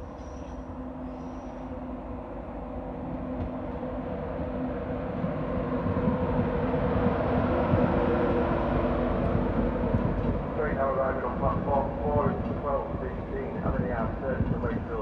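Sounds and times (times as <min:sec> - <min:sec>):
train rumbling along rails: 0:00.0 - 0:15.0.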